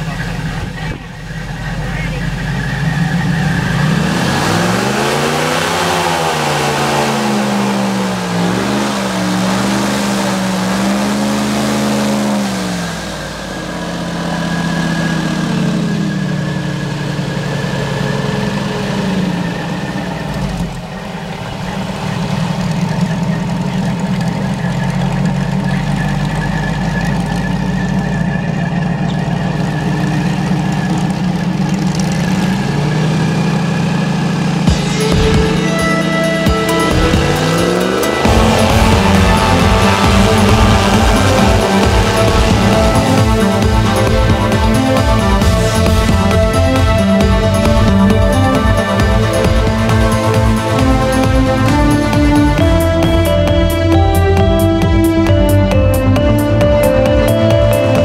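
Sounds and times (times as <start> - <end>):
airboat engine and propeller: 0.0 - 58.0.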